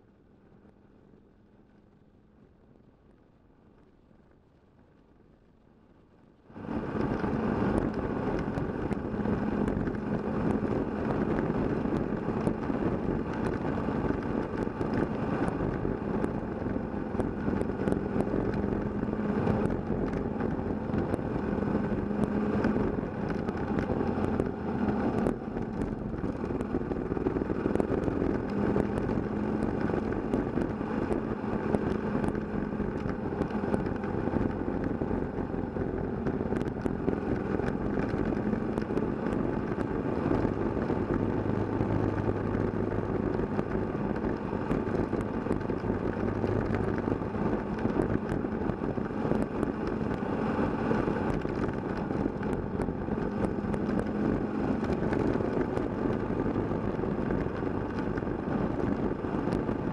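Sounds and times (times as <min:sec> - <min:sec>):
gravel ticking: 0:03.0 - 0:59.9
motorcycle engine running: 0:06.7 - 0:59.9.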